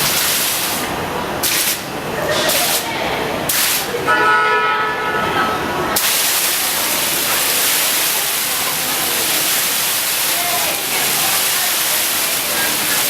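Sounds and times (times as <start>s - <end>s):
water falling spray: 0.0s - 4.1s, 5.8s - 13.0s.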